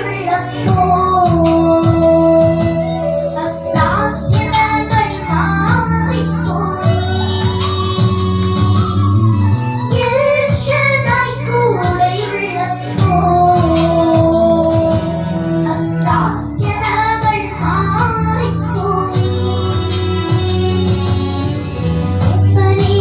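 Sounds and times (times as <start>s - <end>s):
amplified backing music with beat: 0.0s - 23.0s
girls singing into microphones: 0.0s - 23.0s.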